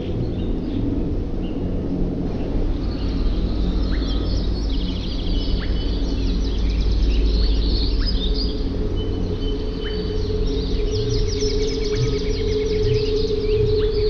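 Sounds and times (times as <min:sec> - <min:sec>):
low rumble: 0:00.0 - 0:14.0
small birds chirping and twittering: 0:00.0 - 0:14.0.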